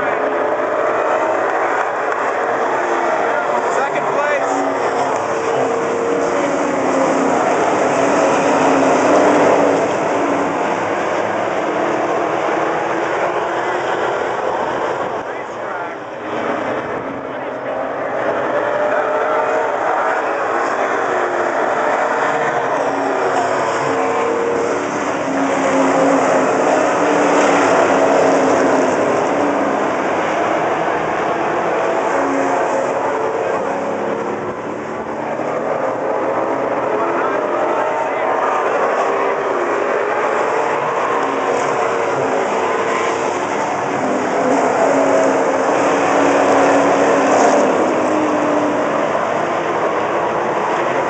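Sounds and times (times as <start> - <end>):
race car engines passing: 0.0 - 51.0.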